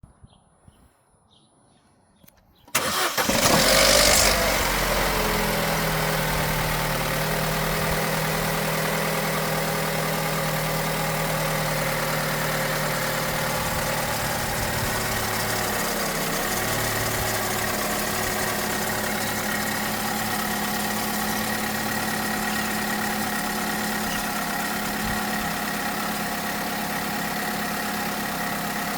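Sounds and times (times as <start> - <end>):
car engine starting and idling: 2.7 - 28.9.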